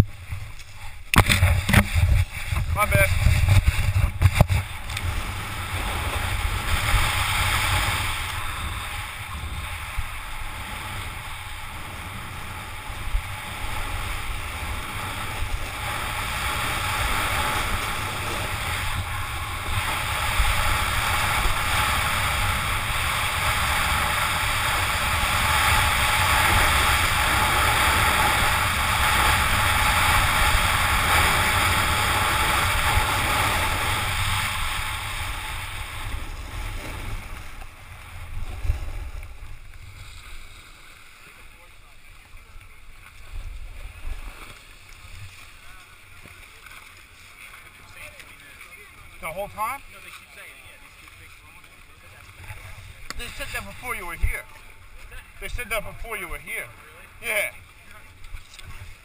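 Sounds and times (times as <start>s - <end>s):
wind rumbling on microphone: 0.0s - 48.2s
snowboard scraping over snow: 0.0s - 59.0s.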